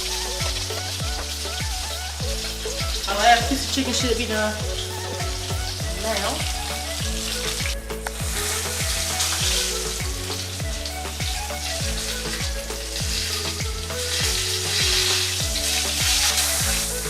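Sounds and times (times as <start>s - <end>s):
background music with heavy bass: 0.0s - 17.0s
food sizzling in a pan: 0.0s - 17.0s.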